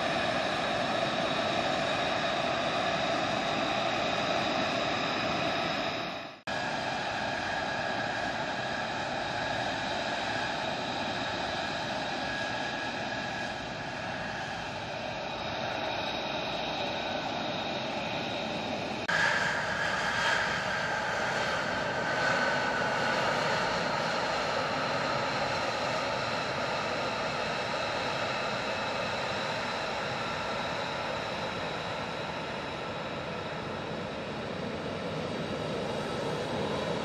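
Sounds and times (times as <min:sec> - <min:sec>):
jet engine whine: 0:00.0 - 0:37.0.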